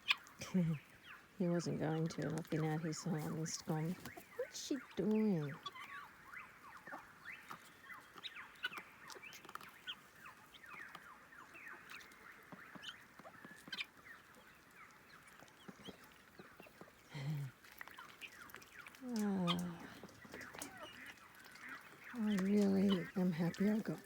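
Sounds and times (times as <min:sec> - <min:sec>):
poultry chirping: 0:00.0 - 0:24.0.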